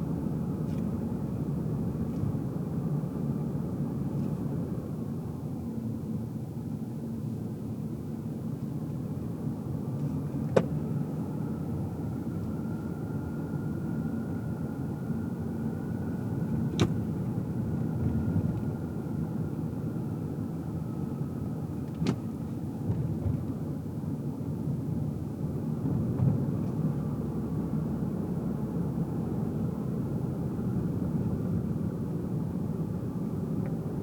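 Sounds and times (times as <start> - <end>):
car road and engine rumble: 0.0 - 34.0.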